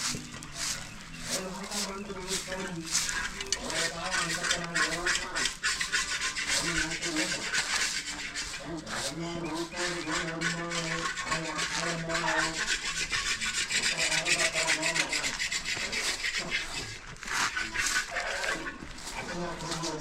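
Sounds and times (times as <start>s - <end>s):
broom sweeping ground: 0.0s - 20.0s.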